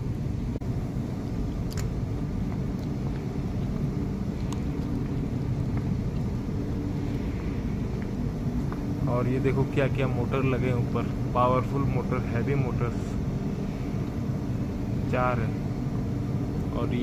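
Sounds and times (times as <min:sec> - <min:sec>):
faint hum: 0:00.0 - 0:17.0
low rumble: 0:00.0 - 0:17.0.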